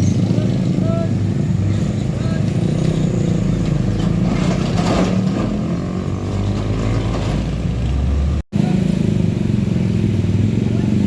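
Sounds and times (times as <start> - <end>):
heavy truck engine passing: 0.0 - 11.0.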